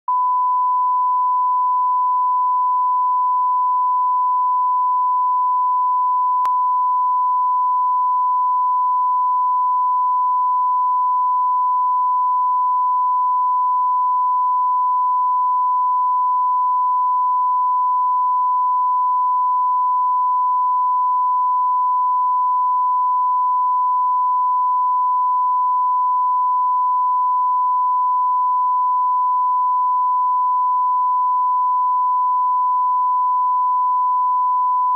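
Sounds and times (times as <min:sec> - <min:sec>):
steady test tone beep: 0:00.0 - 0:34.9.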